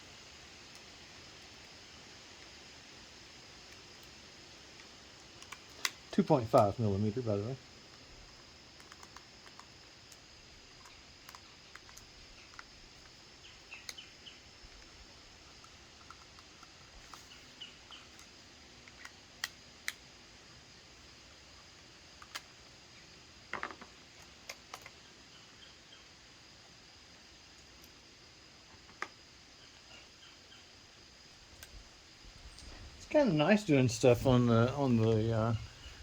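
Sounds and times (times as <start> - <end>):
faint background hiss: 0.0 - 36.0.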